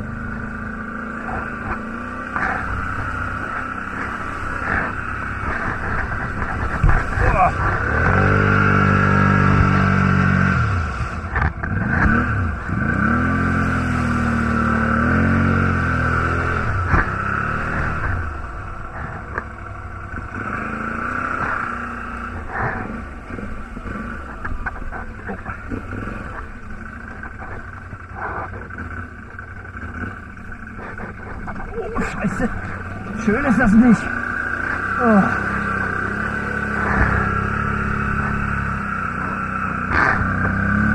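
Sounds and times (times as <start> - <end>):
quad bike engine revving: 0.0 - 40.9.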